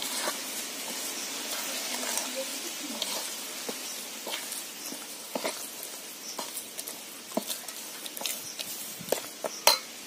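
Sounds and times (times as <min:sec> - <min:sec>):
faint hiss: 0:00.0 - 0:10.0
ladle stirring batter in bowl: 0:00.0 - 0:10.0.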